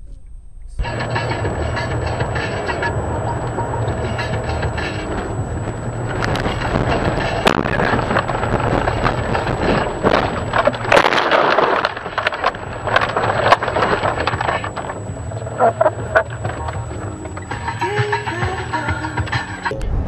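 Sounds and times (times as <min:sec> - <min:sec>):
snow and debris striking car body: 0:00.8 - 0:19.5
car jolting: 0:00.8 - 0:19.7
car rumbling over rough ground: 0:00.8 - 0:19.8.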